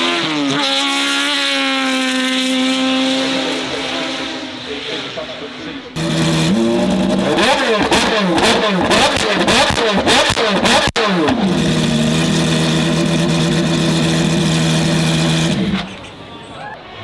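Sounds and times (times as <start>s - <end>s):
car engine revving: 0.0s - 16.3s.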